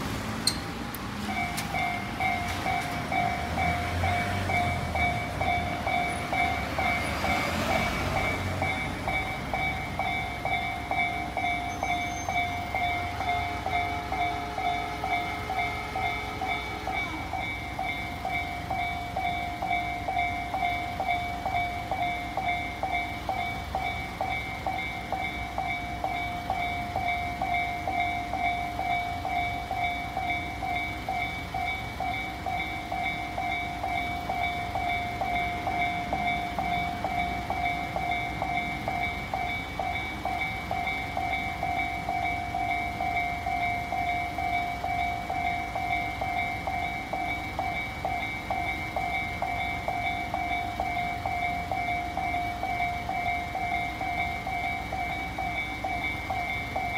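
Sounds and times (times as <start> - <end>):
level crossing bell ringing: 0.0 - 56.9.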